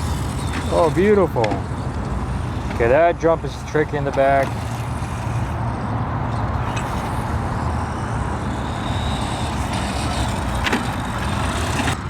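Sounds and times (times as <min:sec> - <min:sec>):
electric motor whine: 0:00.0 - 0:12.0
outdoor noise: 0:00.0 - 0:12.0.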